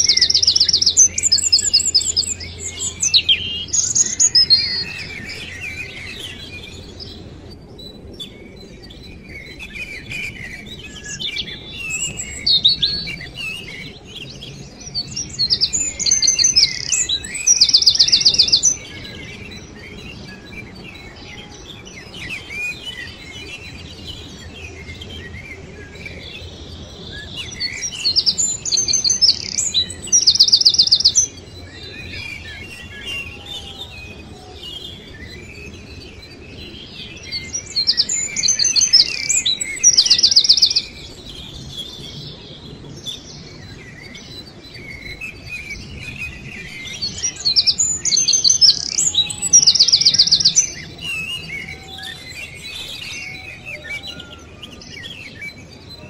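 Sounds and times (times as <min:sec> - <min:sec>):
faint chirping of birds: 0:00.0 - 0:56.0.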